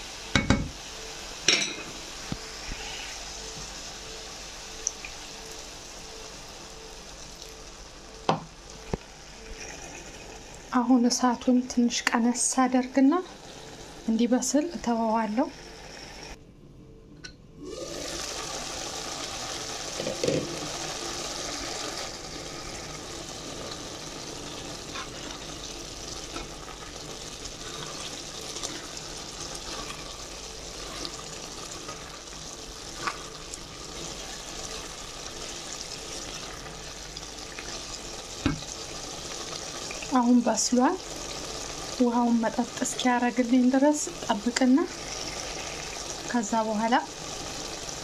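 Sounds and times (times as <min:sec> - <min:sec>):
greens and beef sizzling in pan: 0:00.0 - 0:16.4, 0:17.7 - 0:48.0.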